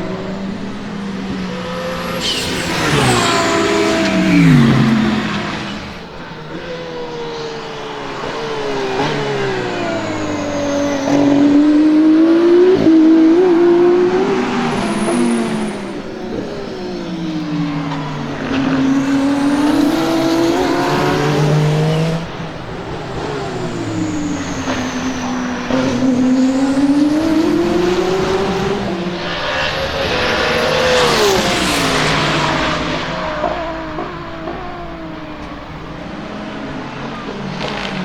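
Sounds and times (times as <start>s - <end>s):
race car engine passing: 0.0s - 38.0s.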